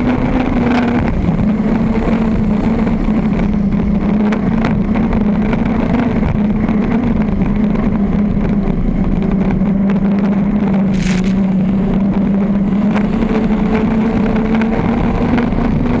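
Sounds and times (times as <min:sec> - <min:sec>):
boat engine running loud: 0:00.0 - 0:16.0.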